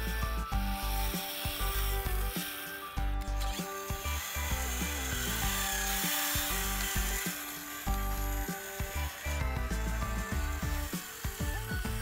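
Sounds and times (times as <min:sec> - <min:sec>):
background music: 0:00.0 - 0:12.0
toy excavator scraping wood chips: 0:00.0 - 0:12.0.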